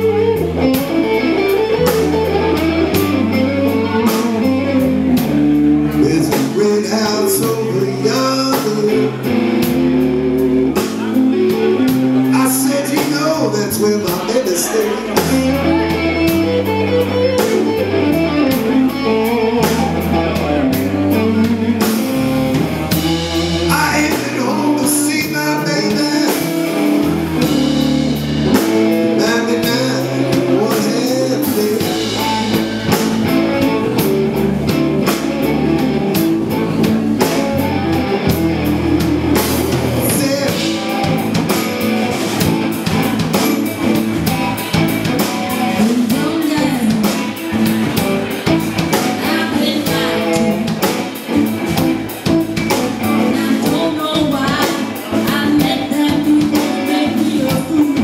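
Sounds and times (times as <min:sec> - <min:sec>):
drum kit: 0:00.0 - 0:58.0
electric guitar: 0:00.0 - 0:58.0
walking bass line: 0:00.0 - 0:58.0.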